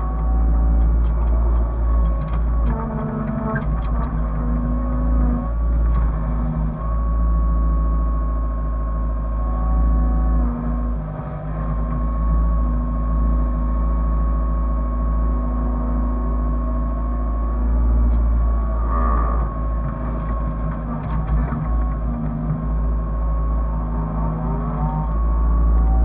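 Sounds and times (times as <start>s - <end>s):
excavator diesel engine droning: 0.0s - 26.0s.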